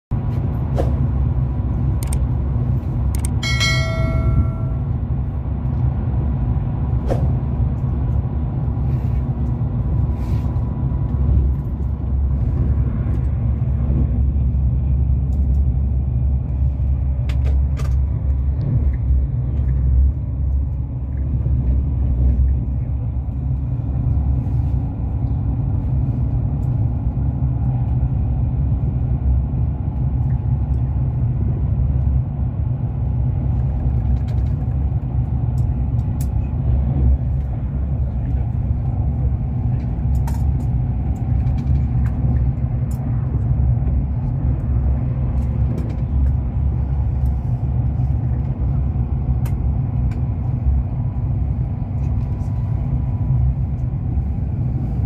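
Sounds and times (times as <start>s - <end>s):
train interior rumble: 0.1s - 55.0s.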